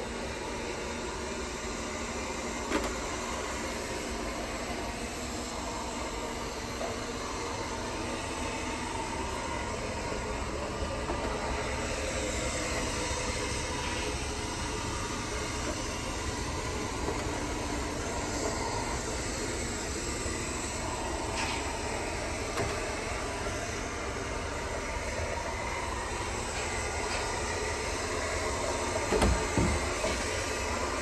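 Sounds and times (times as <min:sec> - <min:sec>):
robot vacuum whirring: 0:00.2 - 0:31.0.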